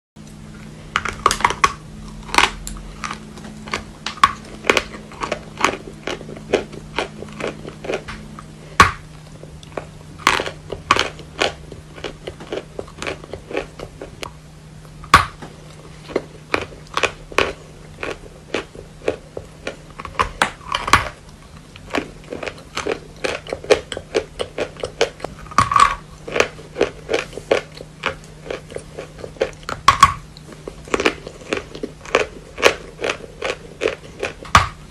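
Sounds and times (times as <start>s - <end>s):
faint steady hum: 0.2s - 34.9s.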